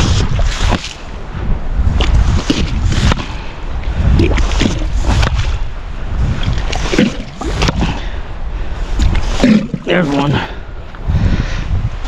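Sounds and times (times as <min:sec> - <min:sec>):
surf: 0:00.0 - 0:12.0
wind buffeting microphone: 0:00.0 - 0:12.0.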